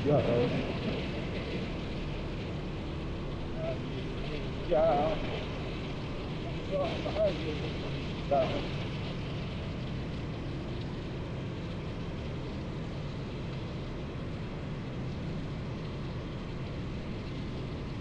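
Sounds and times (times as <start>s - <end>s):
motorcycle engine running: 0.0s - 18.0s
steady hiss: 0.0s - 18.0s.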